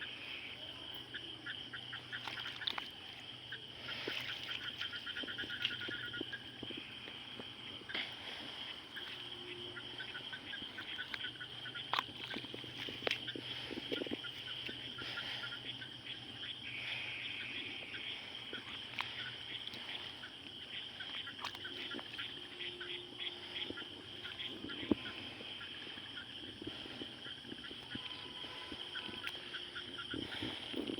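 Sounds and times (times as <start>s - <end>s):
frogs calling: 0.0s - 30.9s.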